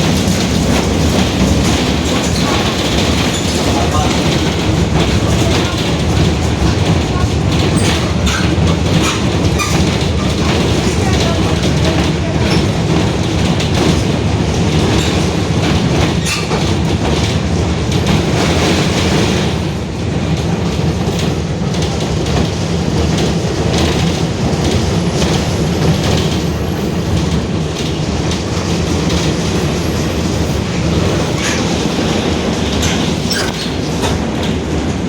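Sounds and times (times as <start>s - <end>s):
bus body rattling: 0.0s - 35.0s.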